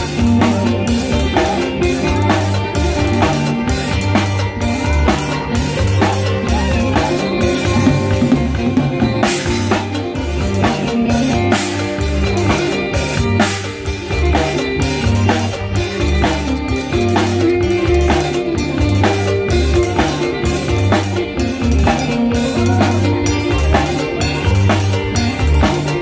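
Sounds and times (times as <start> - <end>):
bass line: 0.0 - 26.0
drum kit groove: 0.0 - 26.0.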